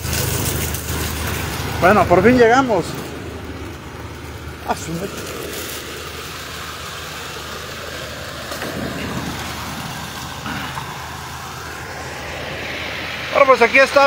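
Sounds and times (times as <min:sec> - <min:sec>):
floodwater rushing down street: 0:00.0 - 0:14.0
low hum: 0:00.0 - 0:14.0.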